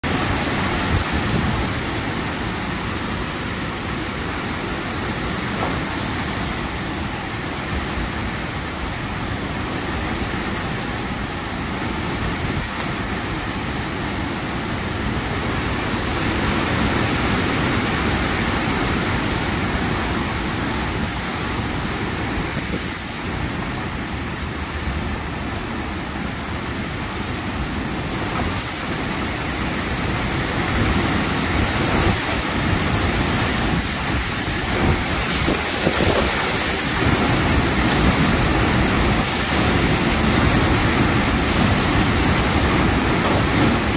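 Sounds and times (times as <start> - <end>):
heavy rain: 0.0 - 43.9
strong wind in trees: 0.0 - 43.9.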